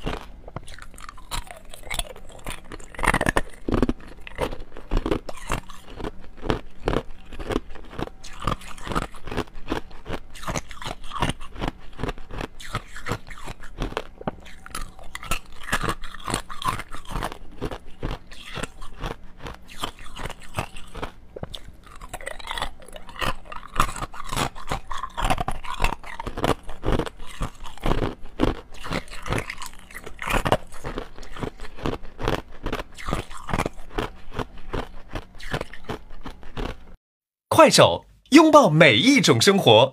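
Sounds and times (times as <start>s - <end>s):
ice cubes crunching when chewed: 0.0s - 37.0s.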